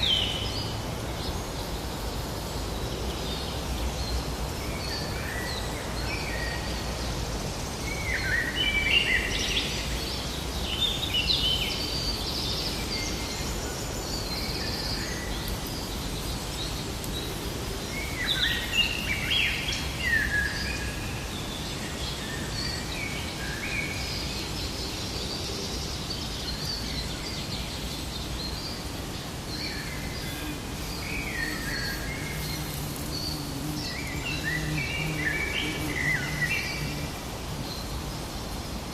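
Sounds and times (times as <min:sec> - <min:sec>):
songbirds chirping and warbling: 0:00.0 - 0:38.9
steady low rumble and hiss: 0:00.0 - 0:38.9.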